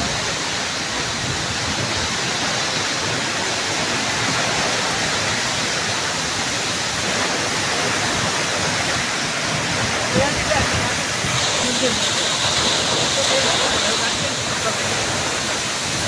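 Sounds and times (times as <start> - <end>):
waterfall rushing onto rock: 0.0 - 16.0.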